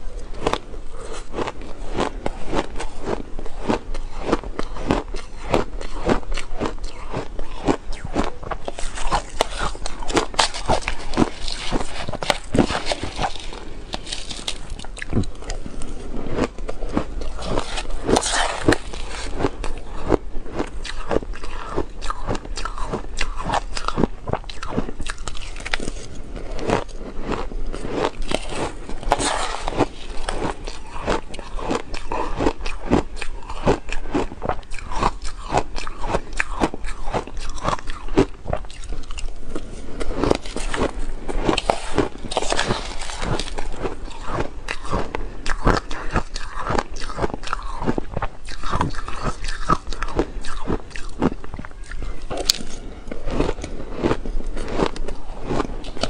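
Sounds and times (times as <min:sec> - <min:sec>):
chewing crushed ice: 0:00.1 - 0:56.0.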